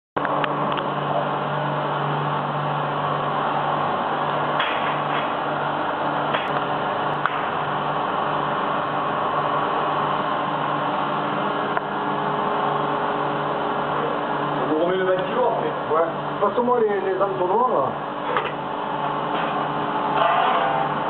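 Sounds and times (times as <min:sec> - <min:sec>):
machine humming and throbbing: 0:00.2 - 0:21.0.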